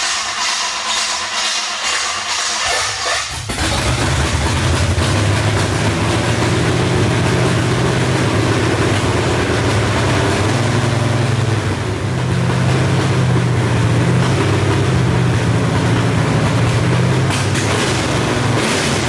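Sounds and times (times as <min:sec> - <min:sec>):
vvee eight engine running loud: 0:00.0 - 0:19.0.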